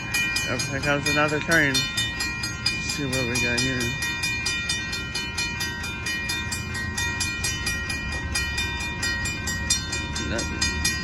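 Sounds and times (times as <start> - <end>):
crossing warning bell ringing: 0.0 - 11.0
train rumbling: 0.0 - 11.0.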